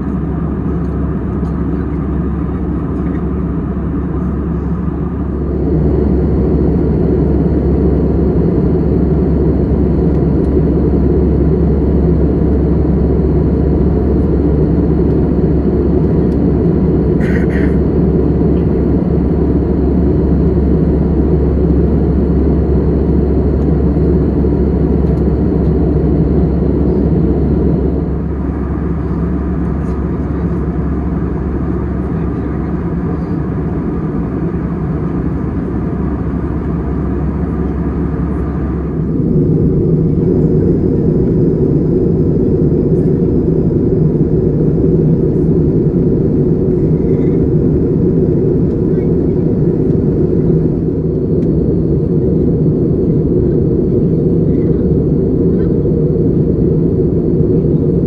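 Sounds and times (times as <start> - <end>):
airplane cabin roar: 0.0 - 58.0.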